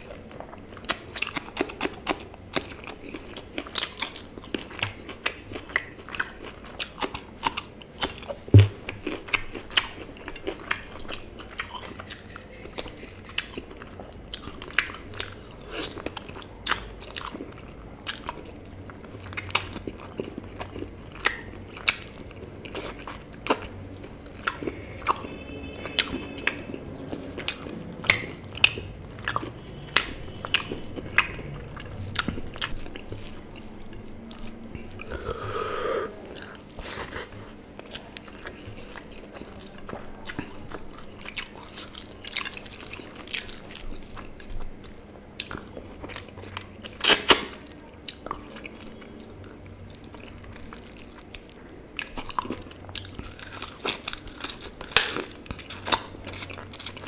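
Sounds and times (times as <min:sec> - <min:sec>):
person chewing with wet smacks: 0:00.0 - 0:57.0.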